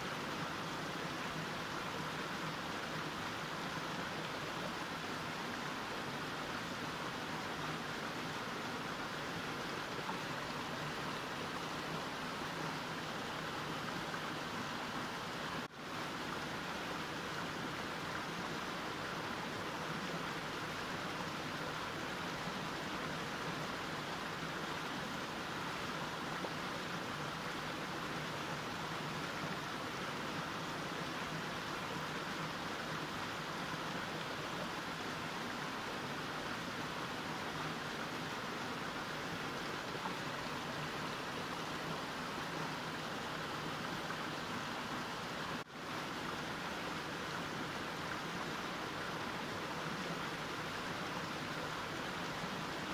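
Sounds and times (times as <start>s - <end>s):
mountain stream rushing: 0.0s - 52.9s.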